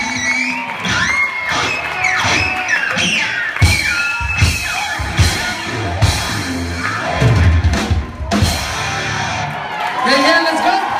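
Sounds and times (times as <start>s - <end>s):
drum kit: 0.0s - 9.6s
electric guitar: 0.0s - 10.0s.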